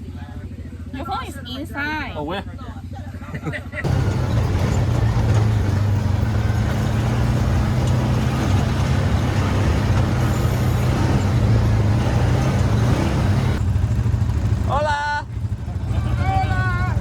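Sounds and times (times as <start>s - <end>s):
all-terrain vehicle engine running: 0.0s - 17.0s.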